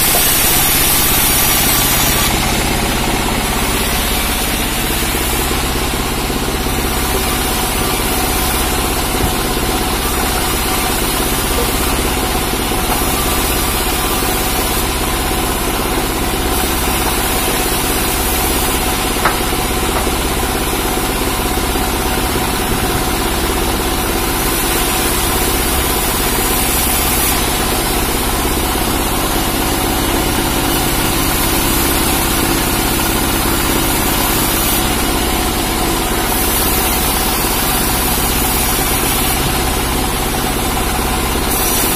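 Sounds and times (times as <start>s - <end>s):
engine running steadily: 0.0s - 41.9s.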